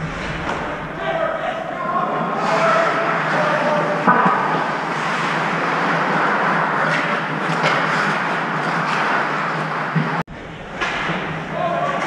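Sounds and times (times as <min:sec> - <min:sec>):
hockey rink background noise: 0:00.0 - 0:12.0.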